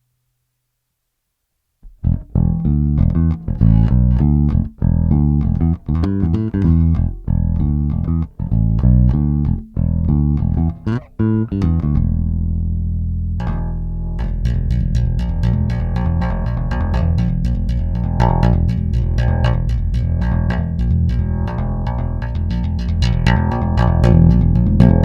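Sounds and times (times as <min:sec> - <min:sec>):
bass groove: 0:01.8 - 0:25.0.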